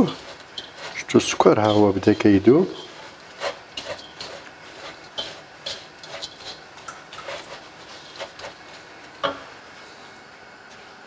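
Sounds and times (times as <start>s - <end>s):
wooden spatula scraping a frying pan: 0.0s - 9.2s.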